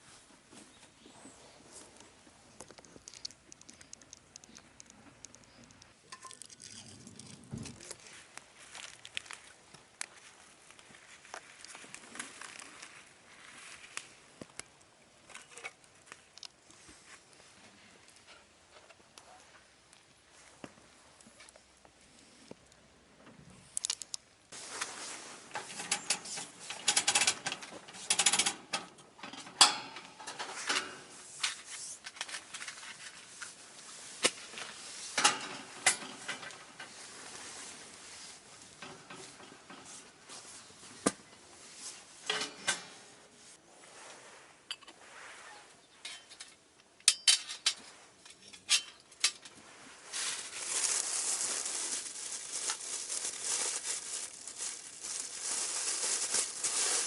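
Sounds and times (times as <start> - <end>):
rustle: 5.3 - 22.6, 23.4 - 57.0.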